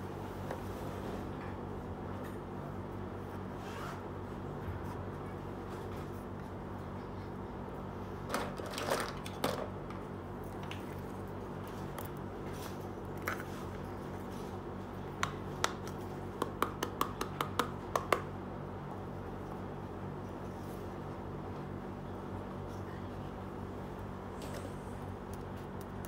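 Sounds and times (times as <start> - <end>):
steady low hum: 0.0 - 8.8, 9.4 - 26.0.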